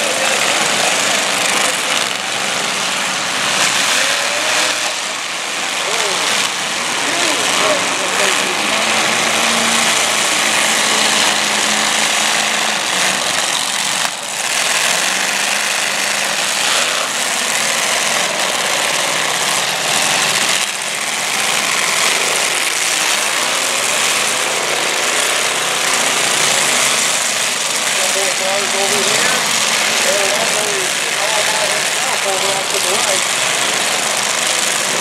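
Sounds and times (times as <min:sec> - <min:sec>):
car engines revving: 0:00.0 - 0:35.0
cars crunching impacts: 0:00.0 - 0:35.0.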